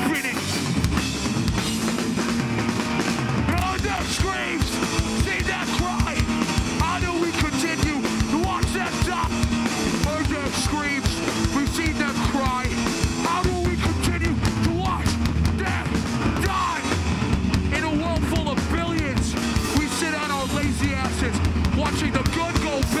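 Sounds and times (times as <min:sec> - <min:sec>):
bass guitar: 0:00.0 - 0:23.0
distorted electric guitars: 0:00.0 - 0:23.0
fast drum kit: 0:00.0 - 0:23.0.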